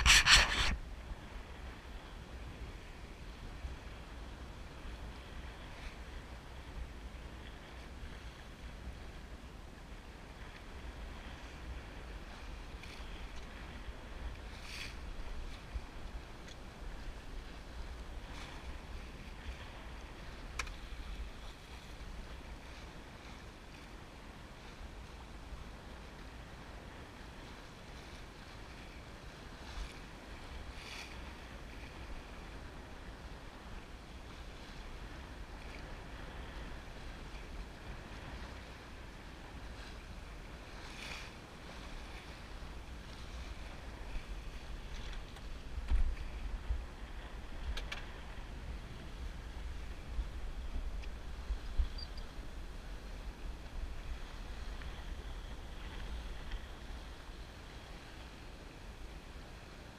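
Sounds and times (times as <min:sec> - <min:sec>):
water rushing along a hull: 0:00.0 - 0:59.9
wind rumbling on microphone: 0:00.0 - 0:59.9.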